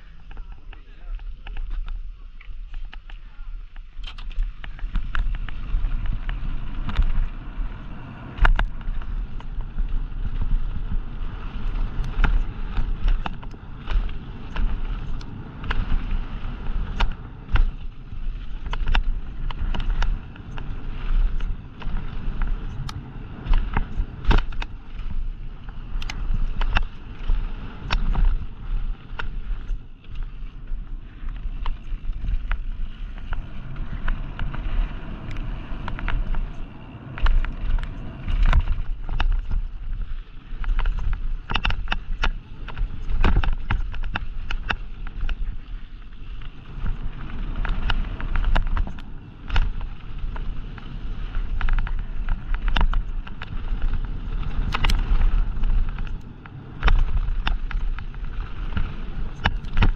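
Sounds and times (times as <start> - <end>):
bike clicks and rattles: 0.0 - 59.9
tyre and wind rumble: 0.0 - 59.9.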